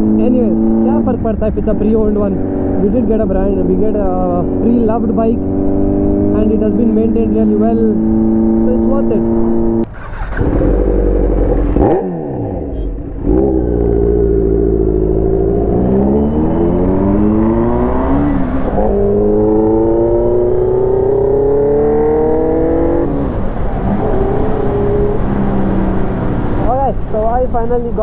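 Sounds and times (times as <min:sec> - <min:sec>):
motorcycle engine accelerating: 0:00.0 - 0:27.5.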